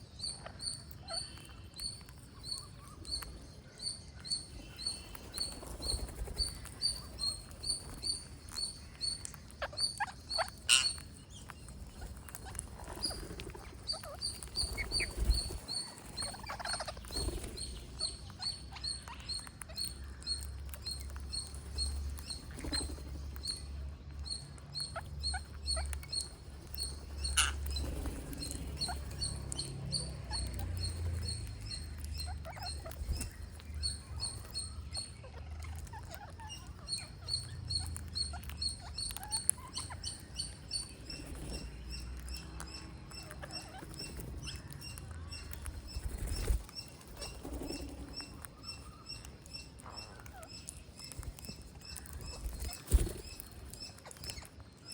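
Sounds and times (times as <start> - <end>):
parrots chirping: 0.0 - 54.9.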